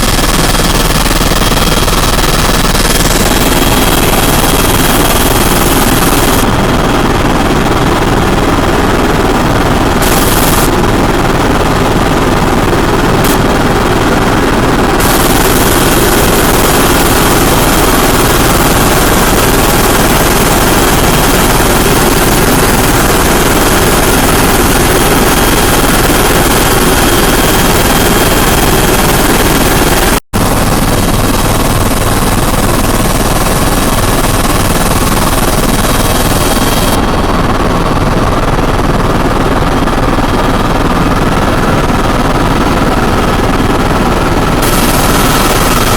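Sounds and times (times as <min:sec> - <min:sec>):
helicopter rotor and engine: 0:00.0 - 0:45.9.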